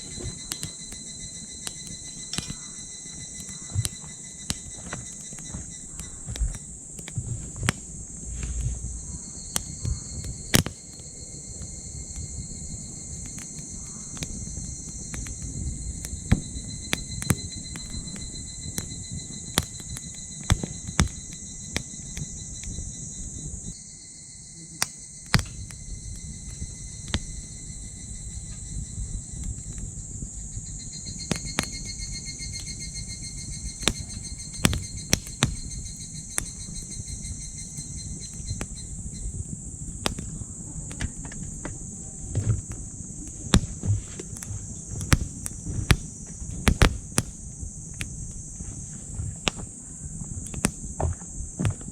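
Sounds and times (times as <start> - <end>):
fire pops: 0.0 - 23.8, 24.6 - 51.9
insects chirring: 0.0 - 51.9
wood fire crackling: 0.0 - 51.9.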